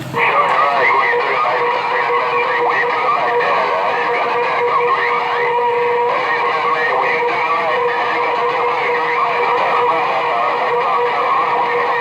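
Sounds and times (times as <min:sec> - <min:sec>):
garbled radio voices: 0:00.0 - 0:12.0.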